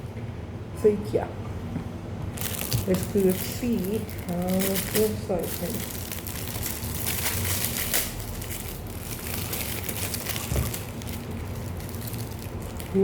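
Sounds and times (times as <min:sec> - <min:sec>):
packaging crinkling and rustling: 0:02.3 - 0:13.0.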